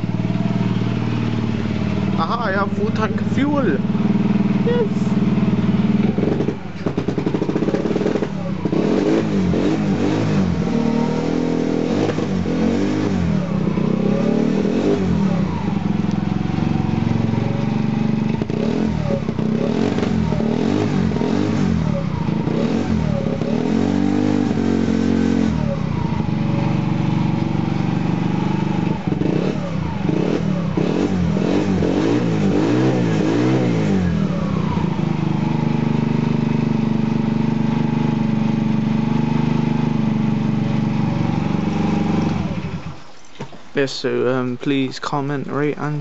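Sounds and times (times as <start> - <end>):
scooter engine idling and revving: 0.0 - 43.6.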